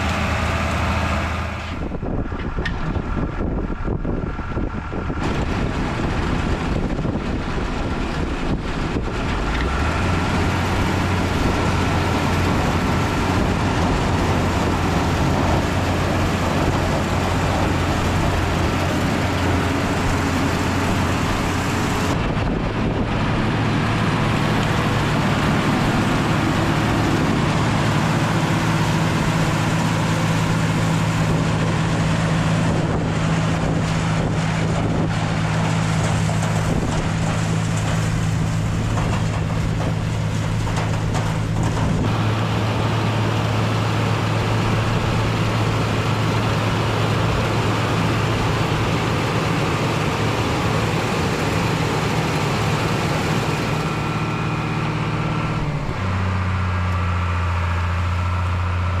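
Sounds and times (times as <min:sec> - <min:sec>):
tractor engine humming: 0:00.0 - 0:59.0.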